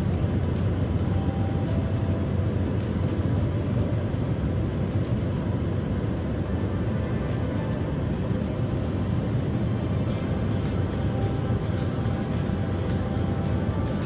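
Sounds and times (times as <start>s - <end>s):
propeller plane droning: 0.0s - 14.0s.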